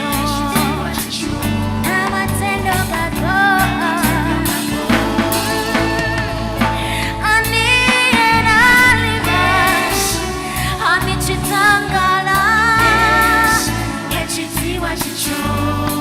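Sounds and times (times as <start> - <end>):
gospel band playing: 0.0 - 16.0
person singing long notes: 0.0 - 16.0.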